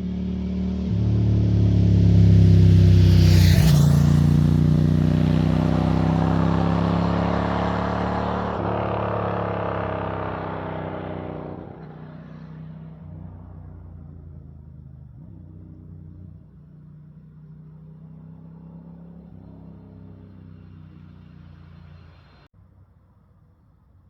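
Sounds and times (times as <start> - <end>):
loud motorcycle engine: 0.0 - 22.5.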